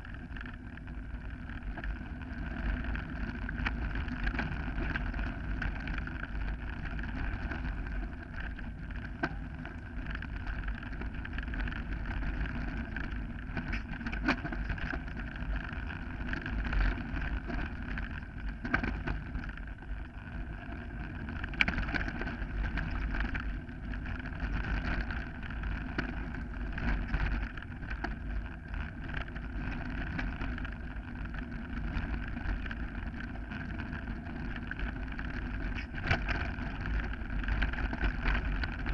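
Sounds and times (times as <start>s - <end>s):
bike rattling over bumps: 0.0s - 38.9s
tyres rumbling on gravel: 0.0s - 38.9s
wind on microphone: 0.0s - 38.9s.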